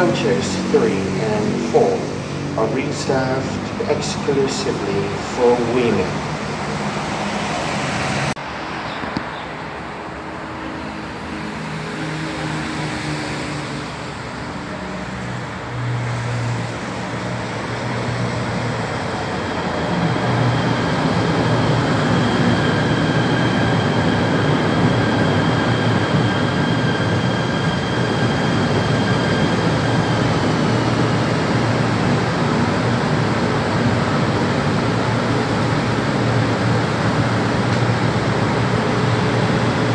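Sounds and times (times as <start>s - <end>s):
faint high train whine: 0.0s - 39.9s
train wheels rumbling on rails: 0.0s - 39.9s.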